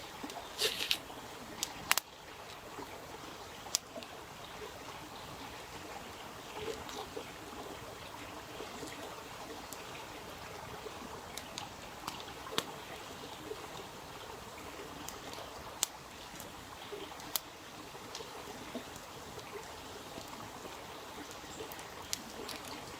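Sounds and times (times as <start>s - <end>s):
water trickling: 0.0s - 22.9s.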